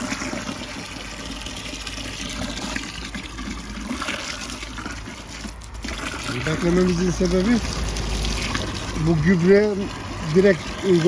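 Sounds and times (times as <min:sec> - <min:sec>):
hose water splashing into liquid: 0:00.0 - 0:11.0.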